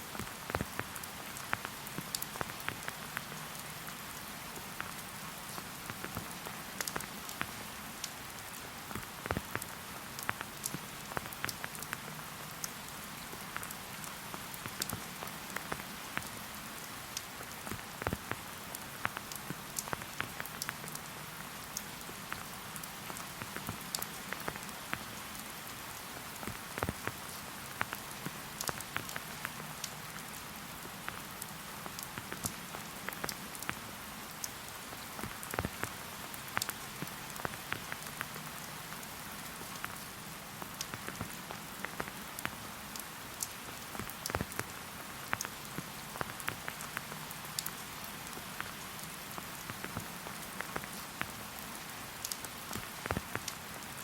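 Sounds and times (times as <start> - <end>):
rain falling in a forest: 0.0 - 54.0
raindrops ticking nearby: 0.0 - 54.0.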